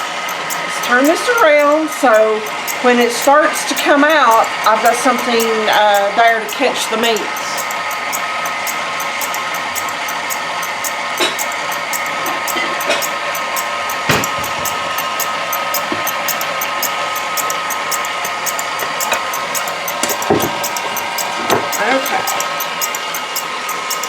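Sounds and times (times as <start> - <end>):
fast even ticking: 0.0 - 24.0
stand mixer motor hum: 0.0 - 24.0.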